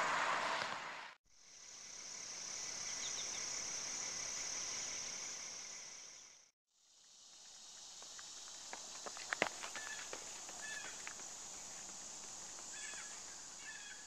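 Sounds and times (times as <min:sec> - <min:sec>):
insects droning: 0:01.3 - 0:14.0.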